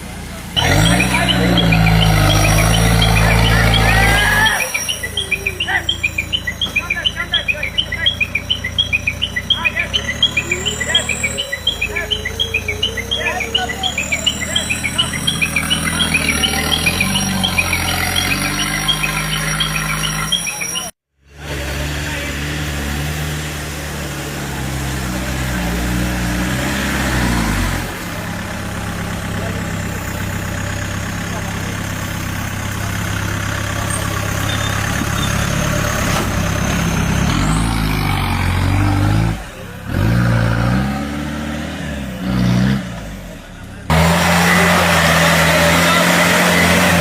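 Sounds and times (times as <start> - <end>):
engine revving: 0.0 - 47.0.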